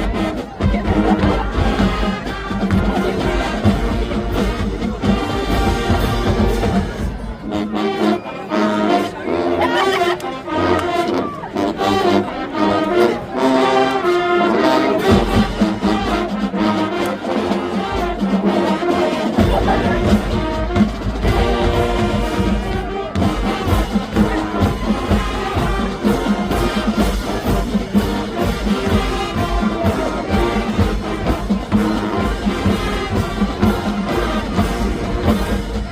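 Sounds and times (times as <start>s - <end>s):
drums: 0.0s - 8.4s, 14.6s - 35.9s
marching band brass: 0.0s - 35.9s.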